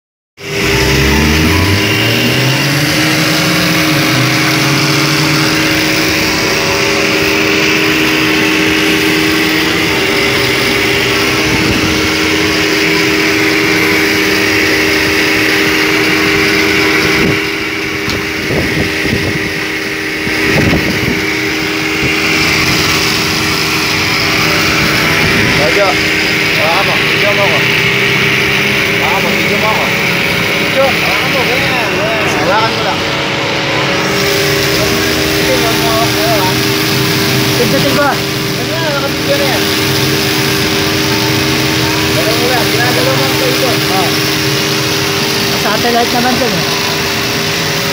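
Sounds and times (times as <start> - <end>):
motor humming: 0.4 - 47.9.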